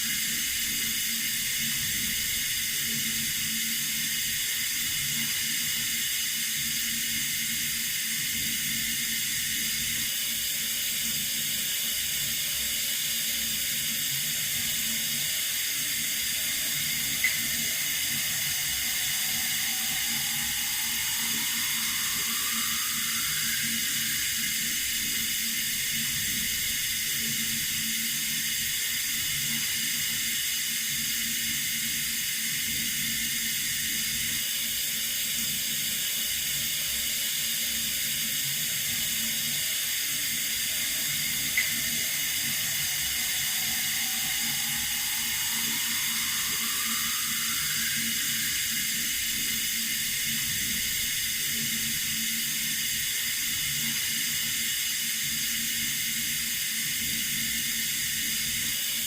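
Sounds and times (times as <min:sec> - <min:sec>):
running water hiss: 0:00.0 - 0:59.0.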